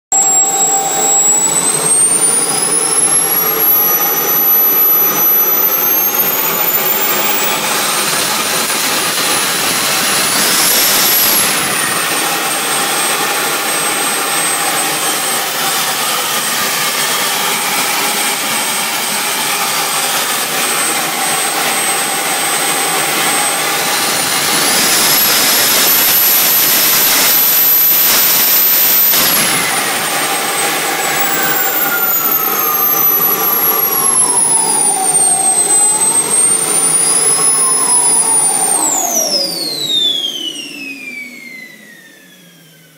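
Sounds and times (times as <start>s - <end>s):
jet turbine whining: 0.1s - 42.9s.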